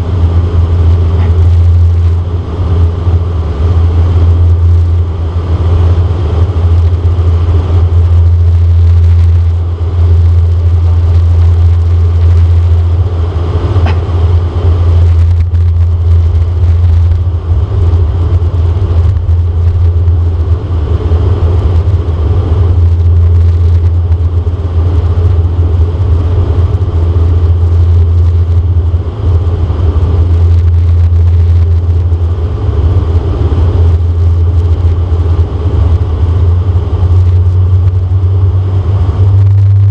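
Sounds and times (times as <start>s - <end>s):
airflow noise: 0.0s - 39.9s
turboprop engines droning in cabin: 0.0s - 39.9s.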